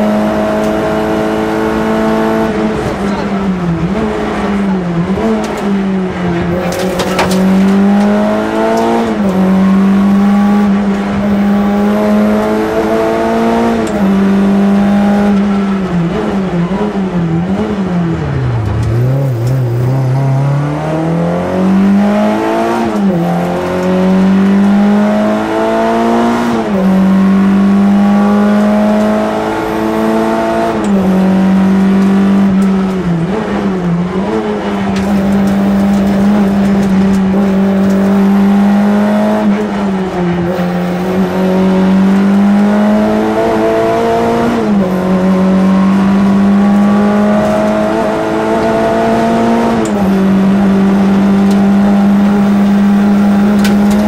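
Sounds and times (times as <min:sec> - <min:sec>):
rally car engine at high revs: 0:00.0 - 0:54.0.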